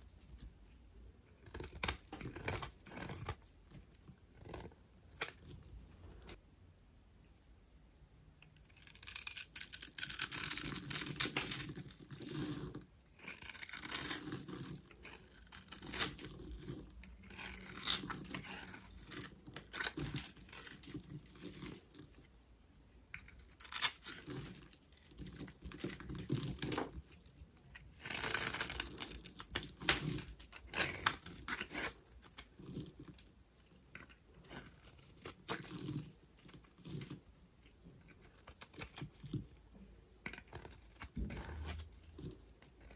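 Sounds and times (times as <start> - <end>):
blade cutting dry soap: 0.2 - 5.8, 8.6 - 42.9.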